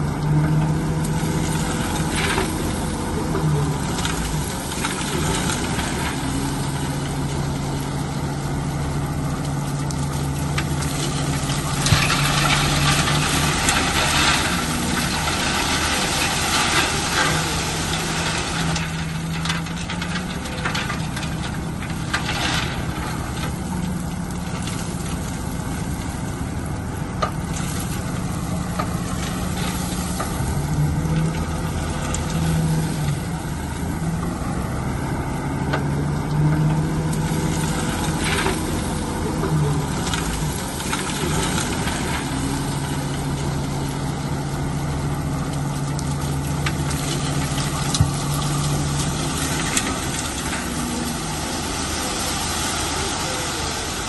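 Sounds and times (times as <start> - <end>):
bulldozer diesel engine drone: 0.0 - 54.0
noisy clatter: 9.3 - 34.6, 35.6 - 54.0.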